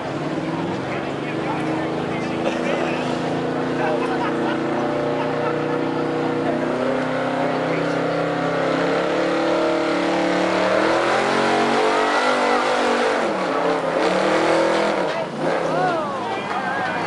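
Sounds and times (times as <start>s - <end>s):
truck engine straining under load: 0.0s - 17.0s.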